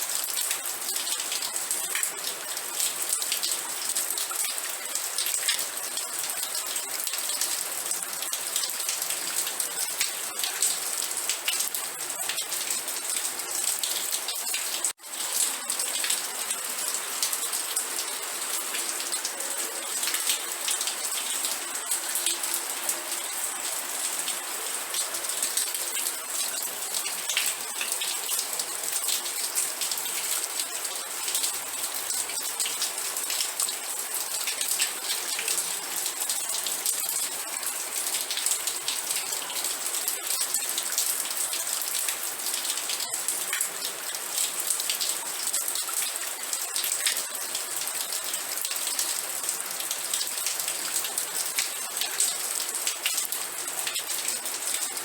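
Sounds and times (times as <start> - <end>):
rain pattering on a surface: 0.0 - 55.0.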